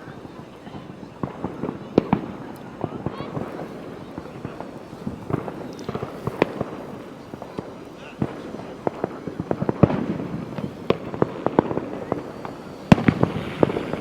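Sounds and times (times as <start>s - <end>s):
distant background noise: 0.0s - 14.0s
fireworks bangs and cracks: 0.0s - 14.0s.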